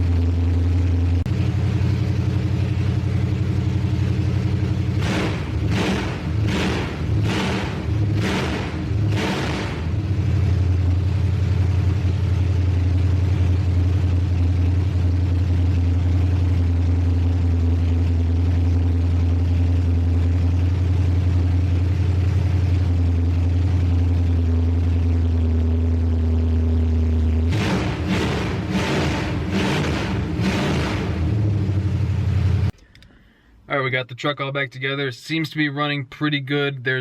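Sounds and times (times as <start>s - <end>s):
truck engine idling: 0.0s - 33.5s.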